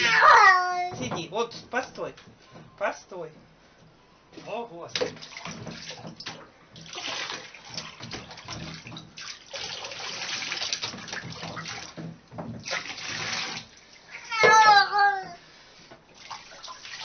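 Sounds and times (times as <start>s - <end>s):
water splashing in a bathtub: 0.0s - 3.4s, 4.4s - 17.0s.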